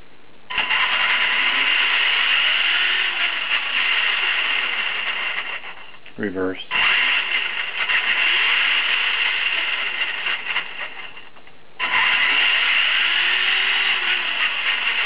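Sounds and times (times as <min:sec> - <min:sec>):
rc truck motors whining: 0:00.5 - 0:06.0, 0:06.7 - 0:15.0.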